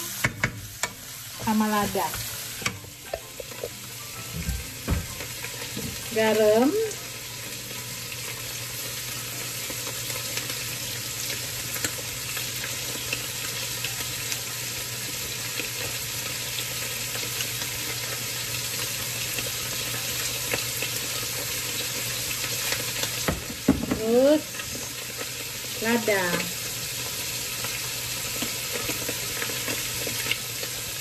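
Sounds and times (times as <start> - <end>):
stir-fry sizzling in a wok: 0.0 - 31.0.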